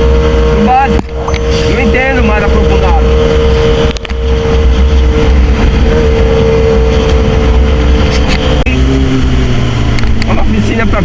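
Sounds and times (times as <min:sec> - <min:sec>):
motorcycle engine running: 0:00.0 - 0:11.0
wind rumble on microphone: 0:00.0 - 0:11.0.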